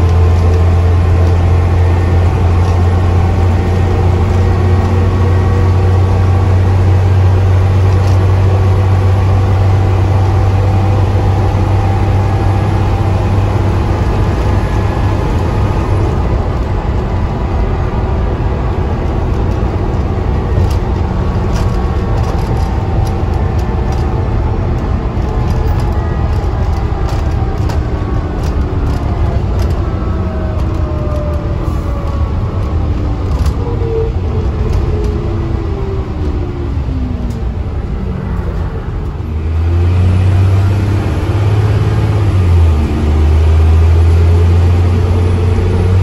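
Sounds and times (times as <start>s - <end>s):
bus diesel engine droning: 0.0s - 46.0s
road noise: 0.0s - 46.0s.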